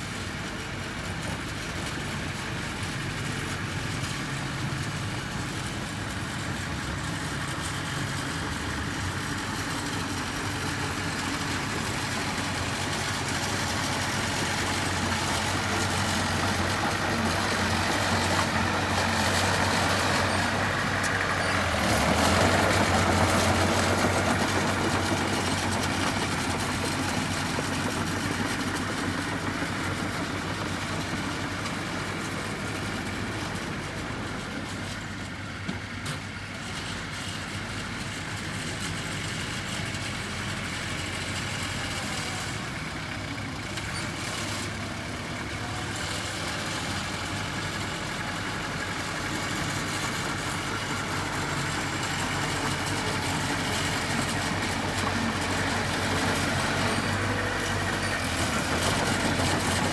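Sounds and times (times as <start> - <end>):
heavy machine engine running: 0.0 - 59.9.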